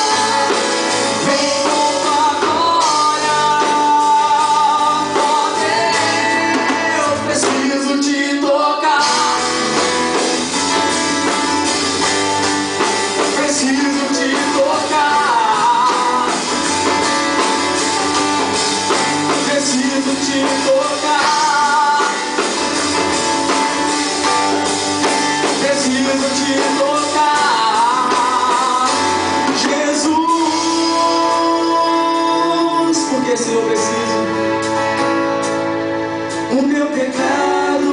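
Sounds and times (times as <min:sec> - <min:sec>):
guitar: 0:00.0 - 0:37.9
live band playing: 0:00.0 - 0:37.9
person singing lead vocals: 0:00.0 - 0:37.9.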